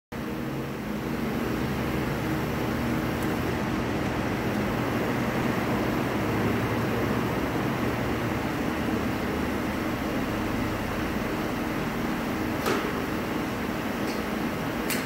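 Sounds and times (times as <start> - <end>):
machine hum: 0.1 - 15.0.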